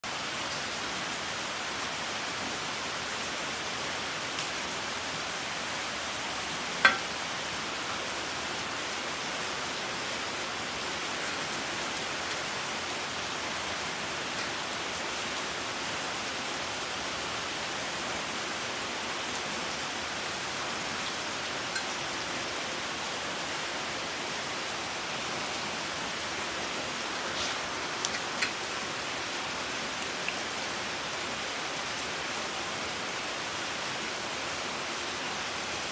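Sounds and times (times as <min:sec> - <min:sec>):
steady hiss: 0:00.7 - 0:33.0.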